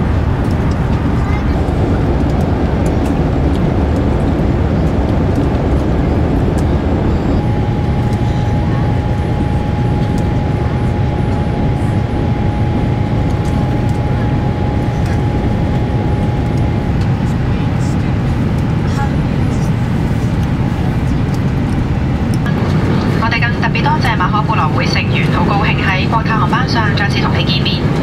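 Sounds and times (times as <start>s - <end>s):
jet engine roar in cabin: 0.0s - 28.0s
thin steady whine: 0.0s - 28.0s.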